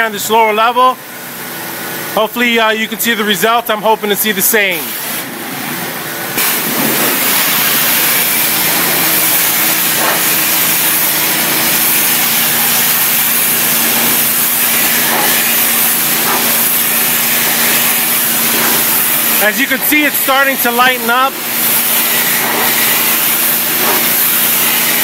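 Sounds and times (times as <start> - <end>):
pressure washer jet hissing: 4.6 - 25.0
steady hum: 4.7 - 25.0.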